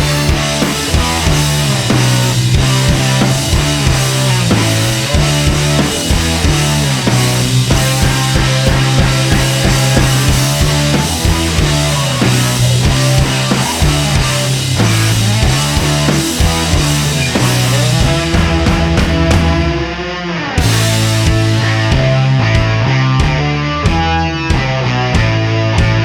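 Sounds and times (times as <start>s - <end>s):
bass line: 0.0s - 26.0s
rock music: 0.0s - 26.0s
steady drum beat: 0.0s - 26.0s.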